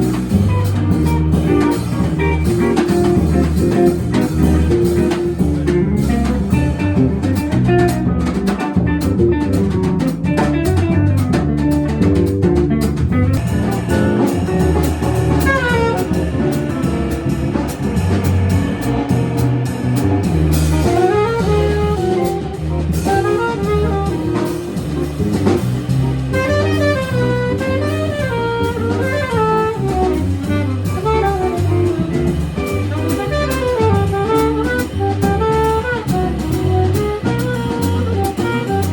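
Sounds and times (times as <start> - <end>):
drum kit with busy cymbals: 0.0 - 38.9
jazz lead melody: 0.0 - 38.9
low bass line: 0.0 - 38.9.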